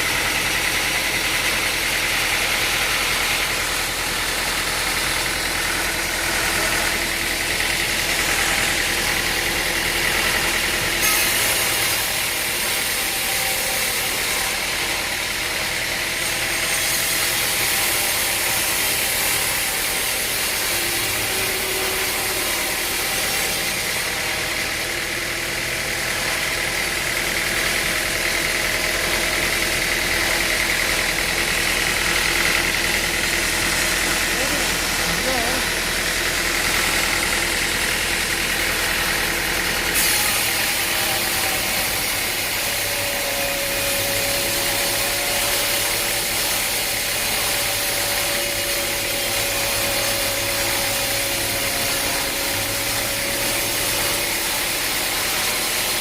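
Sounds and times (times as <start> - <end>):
sawmill machinery droning: 0.0 - 56.0.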